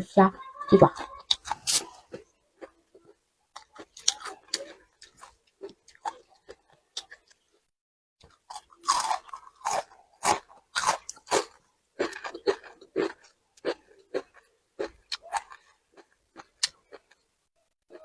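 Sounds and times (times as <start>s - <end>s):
person chewing crunchy food: 0.9s - 7.6s, 8.2s - 17.3s.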